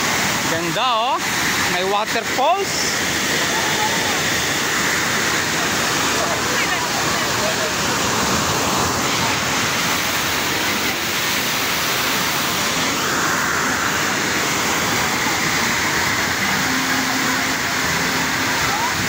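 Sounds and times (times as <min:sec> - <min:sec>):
water pouring down waterfall wall: 0:00.0 - 0:19.0.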